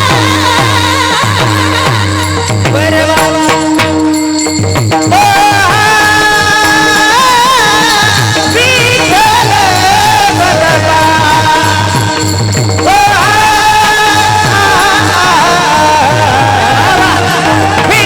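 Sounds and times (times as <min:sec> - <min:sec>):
person singing devotional song: 0:00.0 - 0:18.0
steady drum beat: 0:00.0 - 0:18.0.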